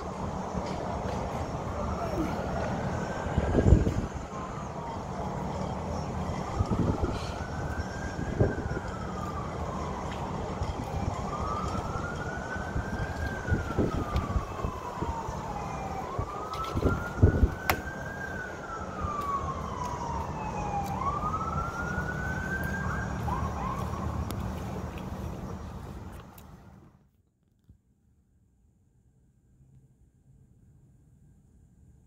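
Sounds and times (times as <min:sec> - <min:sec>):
emergency siren wailing: 0:00.0 - 0:25.7.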